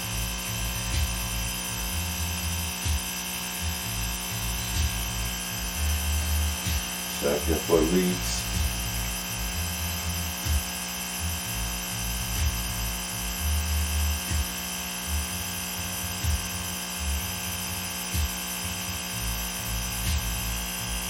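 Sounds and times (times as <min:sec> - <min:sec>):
steady electric hum: 0:00.0 - 0:21.0.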